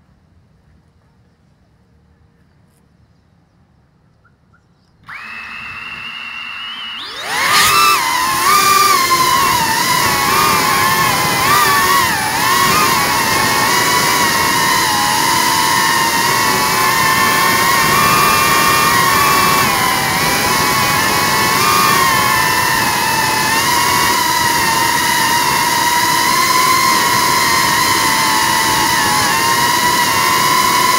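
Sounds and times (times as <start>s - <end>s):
drone motors whining: 5.0s - 30.9s.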